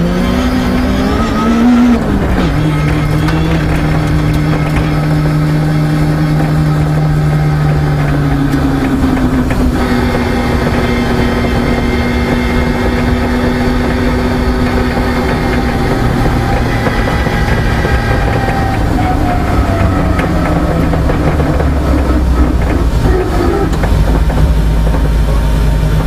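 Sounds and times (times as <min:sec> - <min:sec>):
car engine from inside cabin: 0:00.0 - 0:26.0
tyres rumbling on loose surface: 0:00.2 - 0:26.0.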